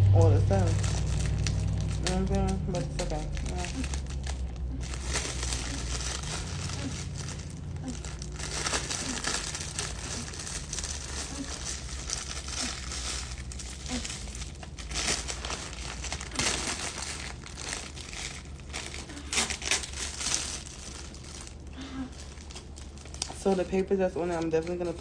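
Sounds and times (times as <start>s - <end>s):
plastic wrapping crinkling and tearing: 0.0s - 25.0s.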